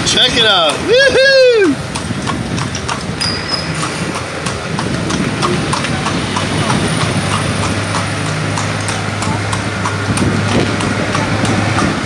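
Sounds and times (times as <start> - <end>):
hooves clip-clopping on pavement: 0.0 - 12.0.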